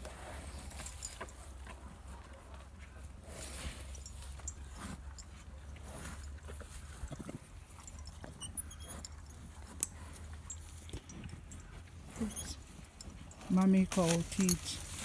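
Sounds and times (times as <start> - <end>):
cattle knocking and rustling: 0.0 - 15.0.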